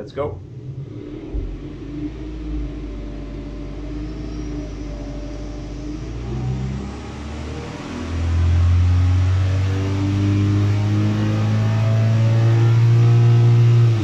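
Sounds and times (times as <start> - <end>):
car engine revving at full load: 0.2 - 14.0.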